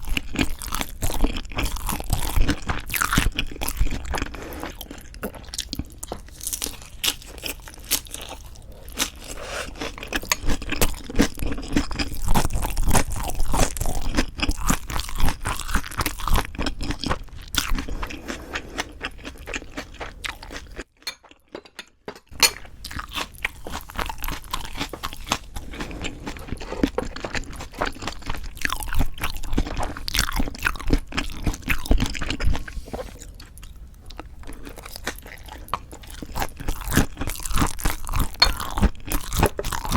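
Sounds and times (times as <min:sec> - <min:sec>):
crunchy chewing: 0:00.0 - 0:21.5, 0:22.3 - 0:39.9.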